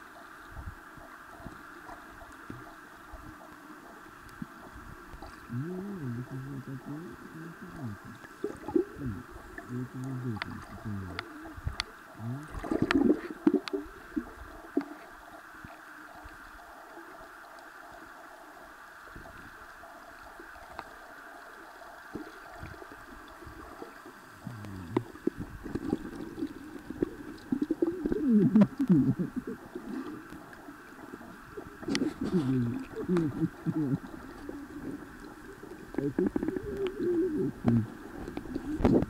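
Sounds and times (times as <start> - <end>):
steady hiss: 0.0 - 39.0
underwater gurgling and sloshing: 0.0 - 39.0.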